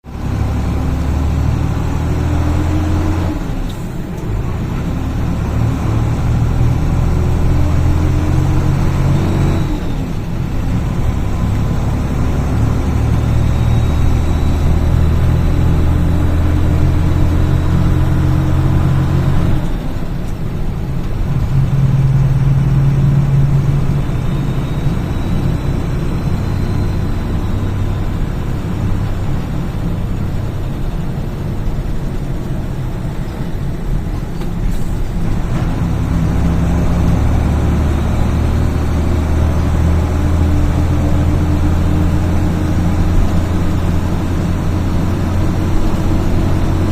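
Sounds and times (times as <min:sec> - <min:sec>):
diesel engine changing gear: 0:00.0 - 0:46.9.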